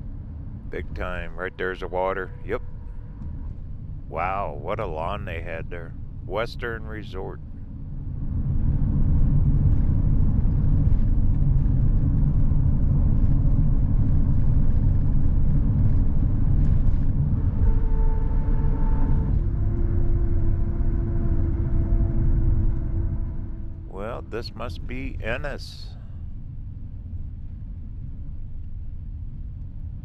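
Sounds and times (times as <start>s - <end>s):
faint steady whine: 0.0s - 30.0s.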